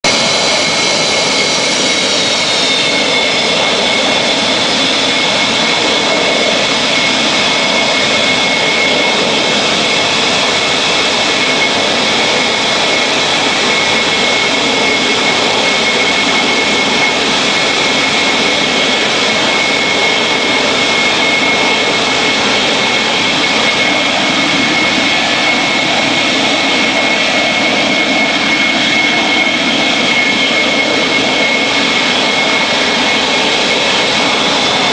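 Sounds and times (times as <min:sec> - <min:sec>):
jet engine whine: 0:00.0 - 0:34.9.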